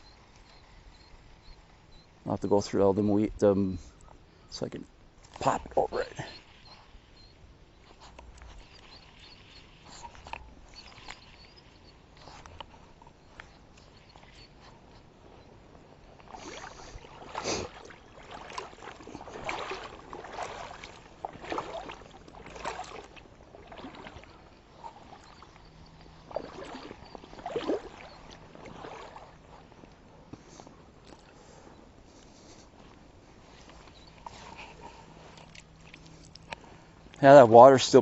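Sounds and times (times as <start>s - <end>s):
water sloshing and splashing: 4.0s - 31.5s, 32.8s - 38.0s.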